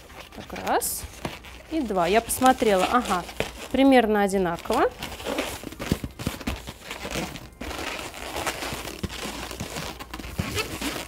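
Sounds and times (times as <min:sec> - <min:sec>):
rubbery balloon rubbing and crinkling: 0:00.0 - 0:11.0.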